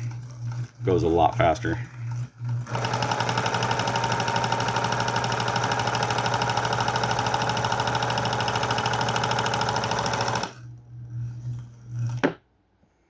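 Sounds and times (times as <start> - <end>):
serger stitching clatter: 0.0 - 10.6.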